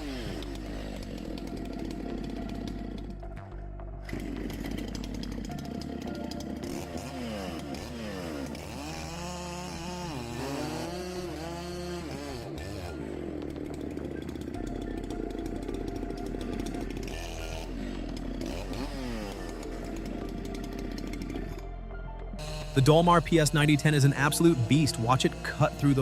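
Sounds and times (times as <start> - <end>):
background music: 0.0 - 26.0
chainsaw cutting logs: 0.0 - 26.0.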